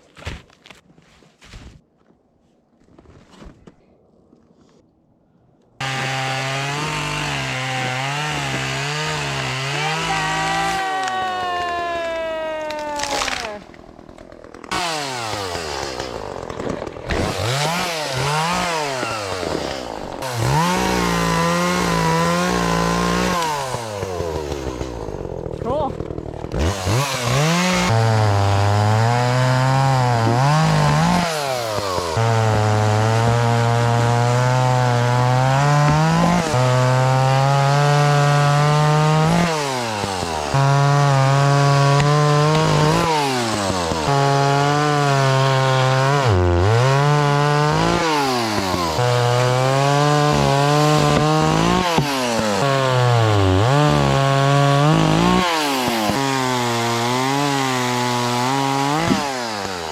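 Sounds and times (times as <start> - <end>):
chainsaw cutting wood: 5.8 - 59.9.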